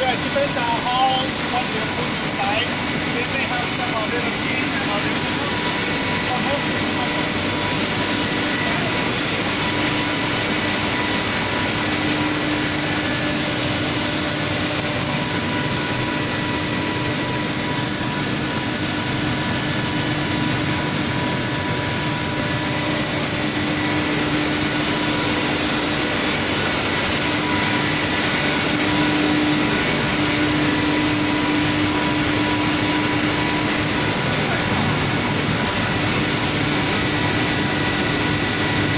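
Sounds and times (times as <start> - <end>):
industrial machinery humming and whining: 0.0 - 38.9.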